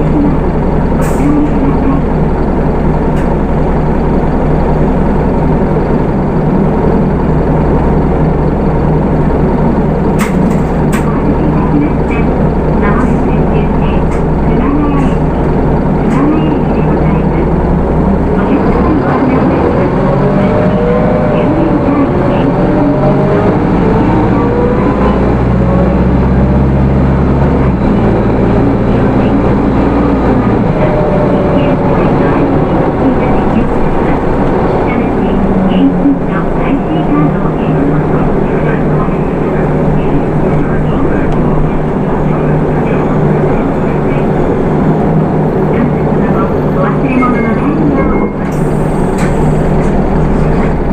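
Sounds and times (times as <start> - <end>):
diesel bus engine humming: 0.0 - 50.9.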